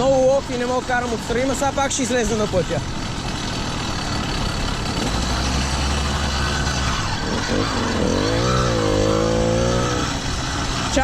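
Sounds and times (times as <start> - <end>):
two-stroke bicycle engine running: 0.0 - 11.0.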